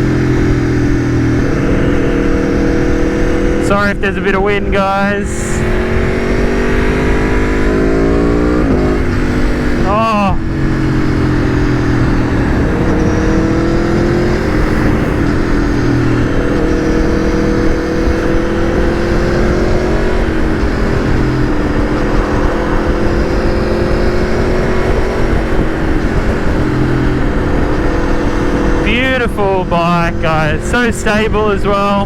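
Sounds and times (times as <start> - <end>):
motorcycle engine accelerating: 0.0 - 32.0
wind rushing over microphone: 0.0 - 32.0.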